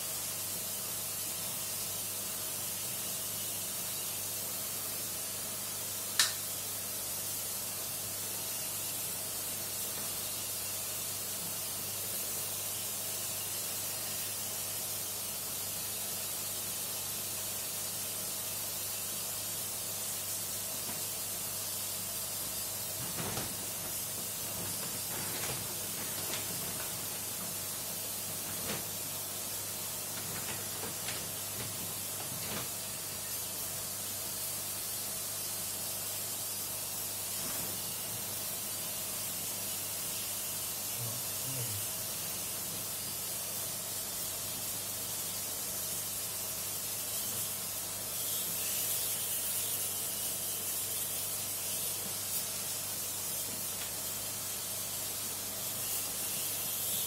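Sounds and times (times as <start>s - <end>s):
water spraying hiss: 0.0s - 57.0s.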